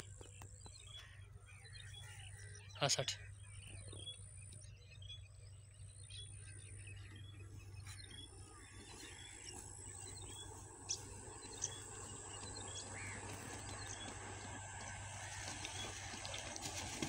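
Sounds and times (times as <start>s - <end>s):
small bird chirping: 0.0s - 16.2s
faint low hum: 0.0s - 17.0s.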